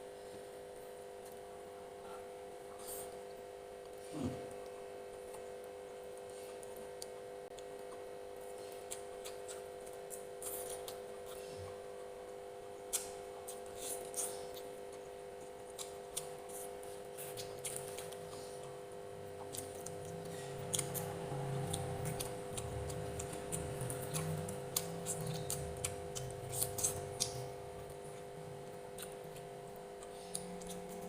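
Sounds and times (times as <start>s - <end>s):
steady low hum: 0.0s - 31.0s
wet chewing: 4.3s - 11.6s, 12.9s - 31.0s.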